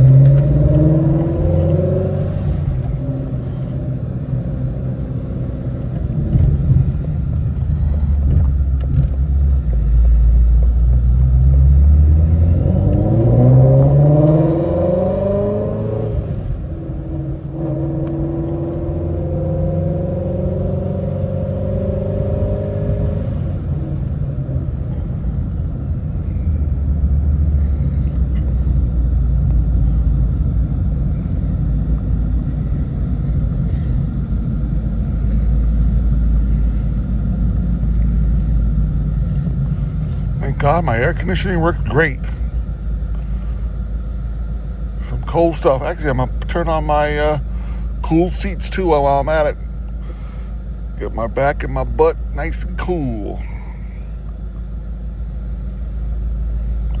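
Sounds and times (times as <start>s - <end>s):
car engine revving: 0.0s - 53.8s.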